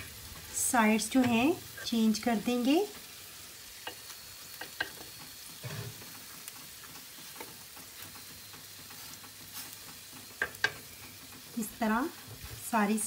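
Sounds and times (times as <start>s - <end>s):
chicken sizzling in butter: 0.0s - 13.0s.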